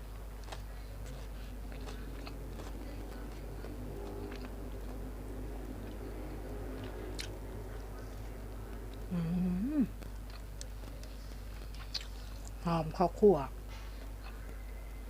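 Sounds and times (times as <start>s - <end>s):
person chewing food: 0.0s - 12.6s, 13.6s - 15.0s
low hum: 0.0s - 15.0s.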